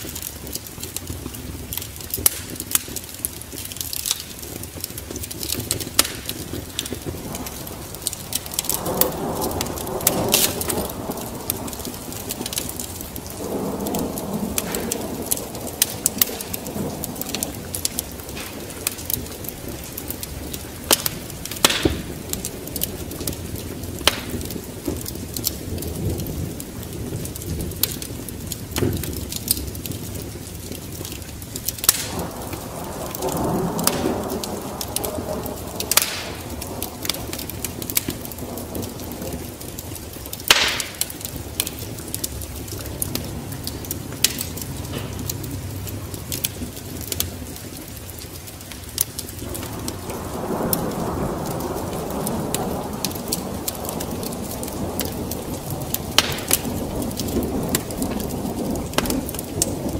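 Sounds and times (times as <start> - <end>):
low rumble of thunder: 0.0 - 59.9
steady rain: 0.0 - 59.9
wood fire crackling and popping: 0.0 - 59.9.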